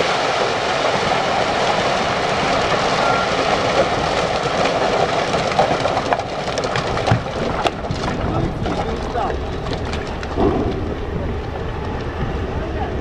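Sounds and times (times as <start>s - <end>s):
rock pouring from dump truck: 0.0s - 11.9s
rocks clattering: 0.0s - 12.3s.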